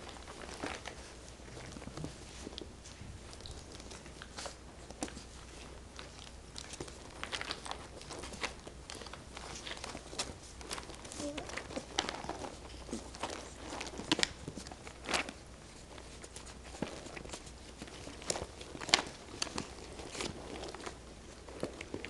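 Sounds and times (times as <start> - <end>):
puppy chewing toy: 0.0 - 22.0
puppy paws clicking and rustling: 0.0 - 22.0.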